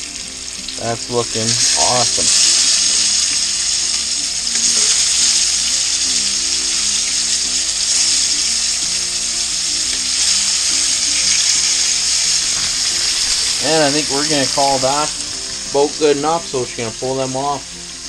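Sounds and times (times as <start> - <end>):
faint background music: 0.0 - 18.0
meat sizzling in hot oil: 0.0 - 18.0.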